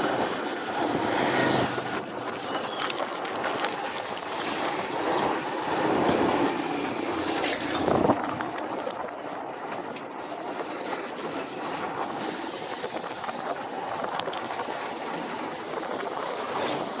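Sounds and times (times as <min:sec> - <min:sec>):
motorcycle road noise: 0:00.0 - 0:17.0
rushing wind: 0:00.0 - 0:17.0.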